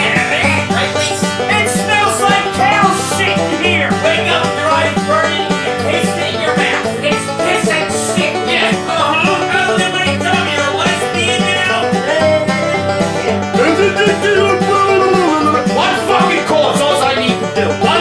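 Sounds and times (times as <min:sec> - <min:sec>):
country music: 0:00.0 - 0:18.0.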